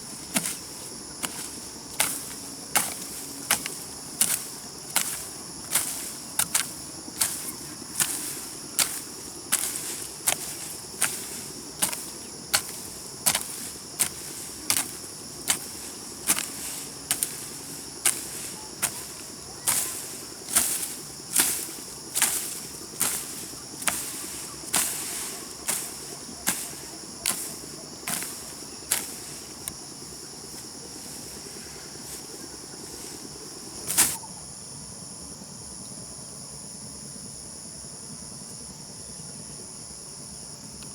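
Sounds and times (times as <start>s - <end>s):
hoe chopping into soil: 0.0s - 34.2s
insects buzzing: 0.0s - 34.4s.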